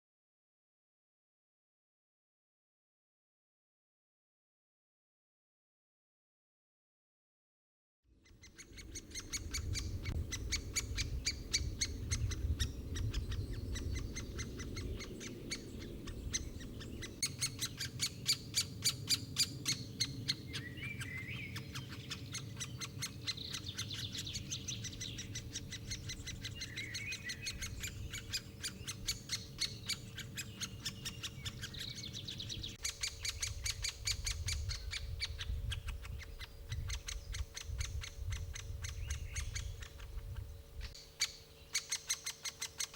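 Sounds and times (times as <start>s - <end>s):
birds calling: 8.2s - 42.9s
faint steady hum: 8.3s - 42.9s.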